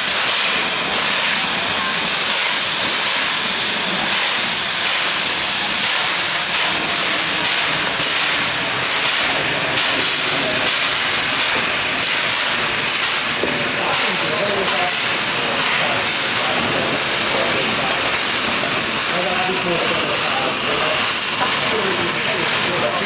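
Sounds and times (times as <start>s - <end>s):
loud steam hiss: 0.0s - 23.0s.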